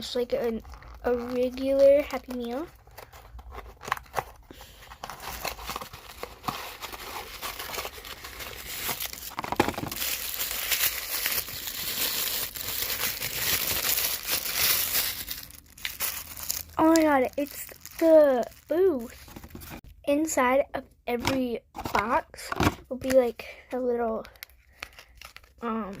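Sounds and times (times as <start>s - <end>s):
packaging crinkling: 0.0s - 19.9s, 24.2s - 26.0s.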